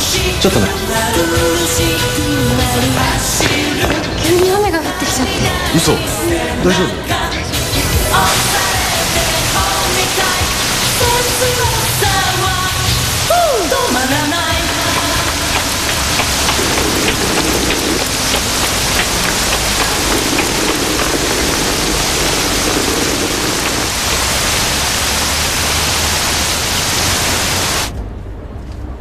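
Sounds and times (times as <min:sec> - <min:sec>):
loud rain falling: 0:00.0 - 0:27.9.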